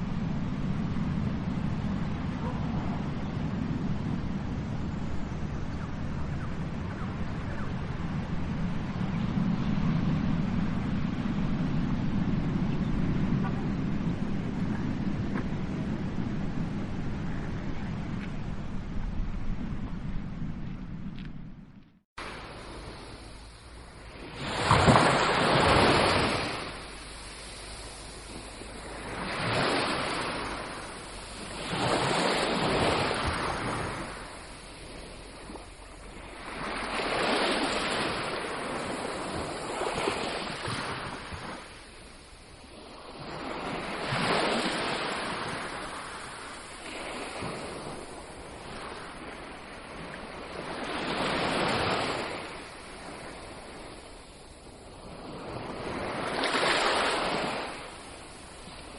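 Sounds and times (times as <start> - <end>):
ocean surf breaking on beach: 0.0 - 18.8, 22.2 - 58.9.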